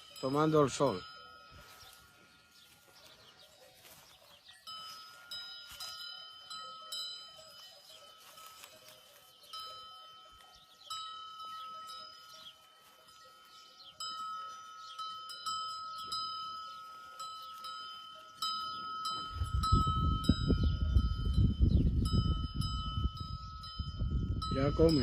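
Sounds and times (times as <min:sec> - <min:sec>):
goat bells clanking: 0:00.0 - 0:25.0.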